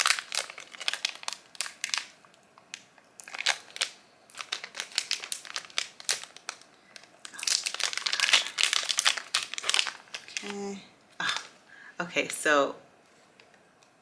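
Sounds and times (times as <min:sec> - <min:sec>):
plastic packaging crinkling and tearing: 0:00.0 - 0:11.6.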